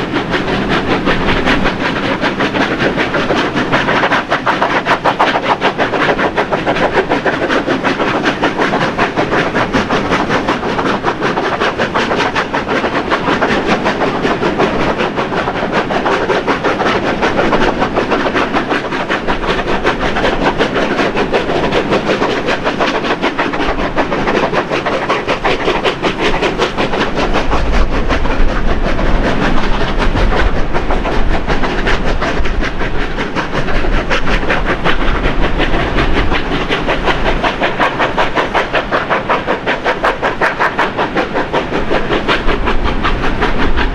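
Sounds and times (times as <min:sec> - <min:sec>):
steam locomotive exhaust beat: 0:00.0 - 0:43.9.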